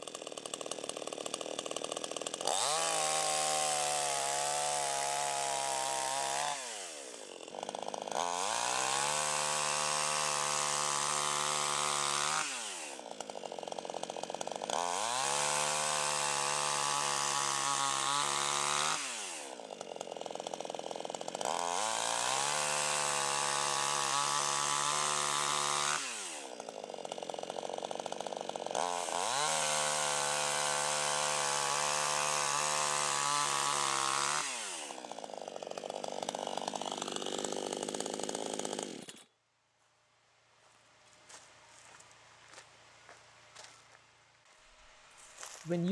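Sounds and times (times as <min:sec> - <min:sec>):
chainsaw cutting tree trunk: 0:00.0 - 0:39.4, 0:40.6 - 0:45.9.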